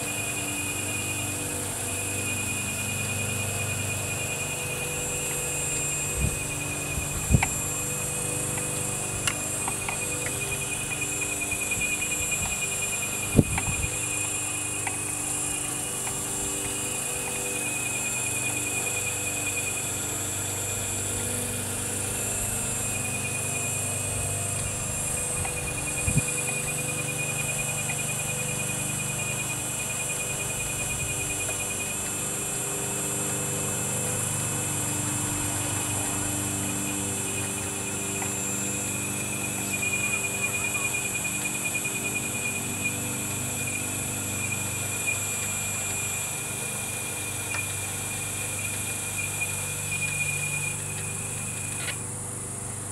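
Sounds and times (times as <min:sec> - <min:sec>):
hydraulic whine: 0:00.0 - 0:52.9.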